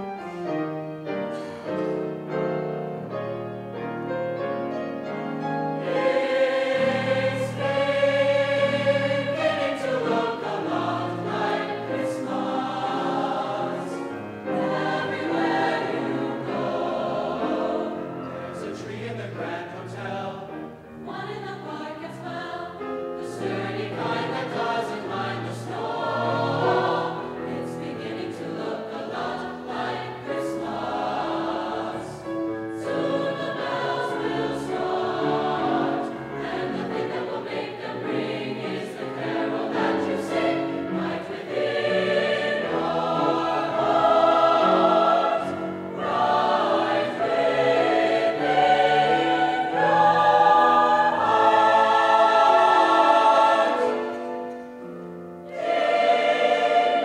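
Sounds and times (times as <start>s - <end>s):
mixed choir singing in harmony: 0.0s - 57.0s.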